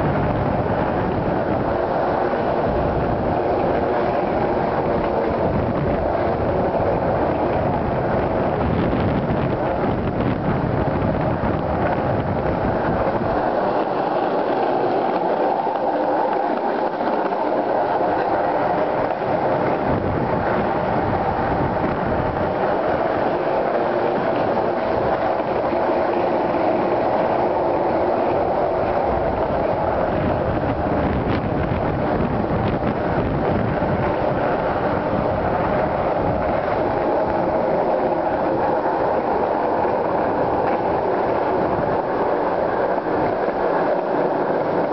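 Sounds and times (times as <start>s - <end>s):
skateboard wheels rolling on concrete: 0.0s - 44.9s.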